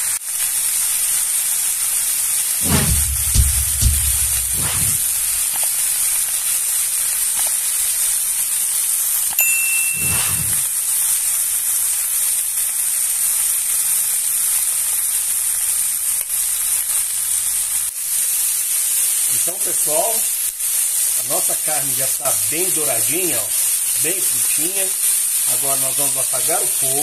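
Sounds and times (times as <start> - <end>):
meat sizzling in a pan: 0.0 - 3.3, 4.4 - 9.4, 10.0 - 27.0.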